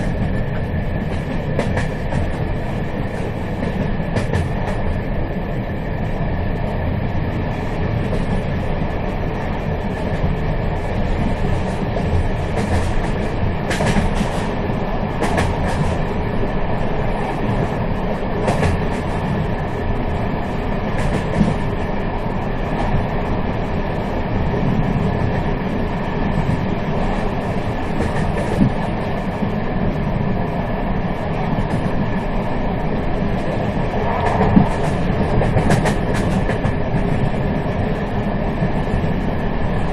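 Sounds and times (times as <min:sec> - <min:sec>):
train wheels clicking on rails: 0:00.0 - 0:05.6, 0:07.4 - 0:30.6, 0:31.3 - 0:39.9
train rumbling: 0:00.0 - 0:39.9.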